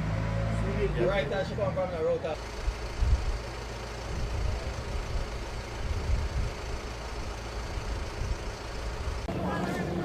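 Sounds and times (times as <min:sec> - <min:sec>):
vehicle rumbling on the road: 0:00.0 - 0:10.0.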